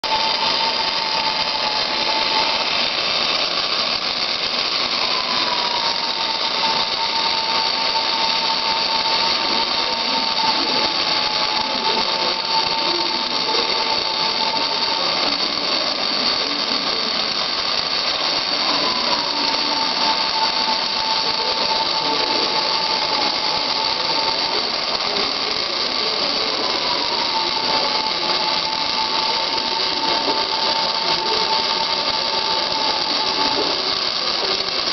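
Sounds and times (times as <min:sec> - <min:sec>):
robot whine: 0:00.0 - 0:34.9
welding arc hissing and crackling: 0:00.0 - 0:34.9.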